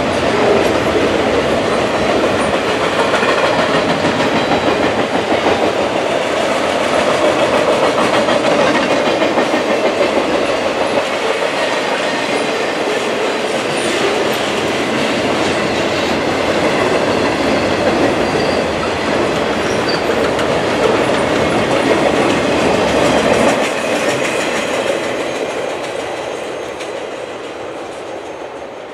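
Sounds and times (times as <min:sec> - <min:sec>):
freight train wheels rumbling on rails: 0:00.0 - 0:28.9.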